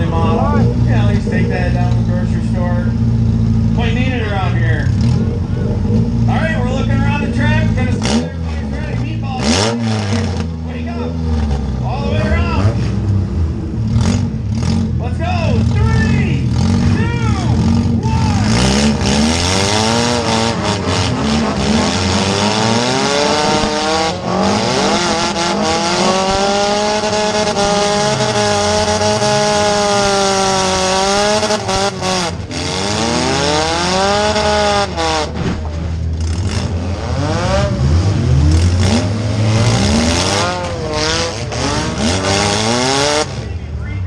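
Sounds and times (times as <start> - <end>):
car engine revving hard: 0.0 - 43.8.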